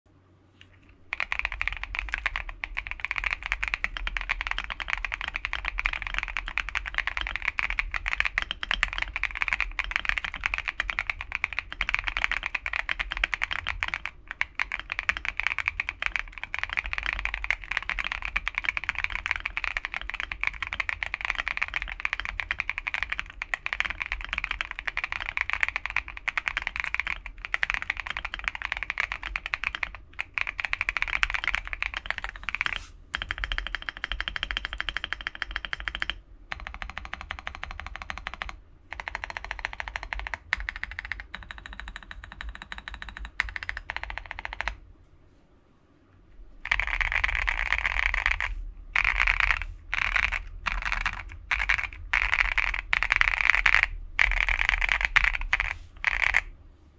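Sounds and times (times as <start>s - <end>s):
mechanical keyboard typing: 1.1s - 44.8s, 46.6s - 56.5s.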